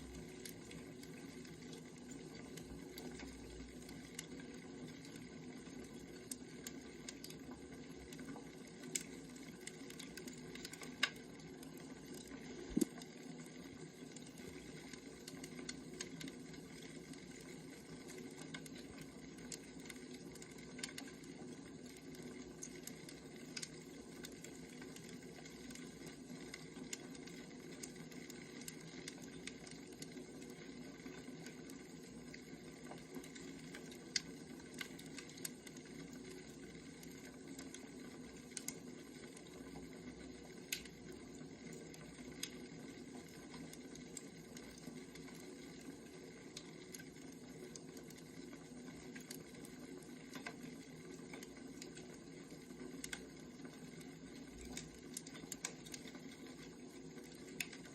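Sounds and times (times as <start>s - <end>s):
firewood crackling and hissing: 0.0s - 57.9s.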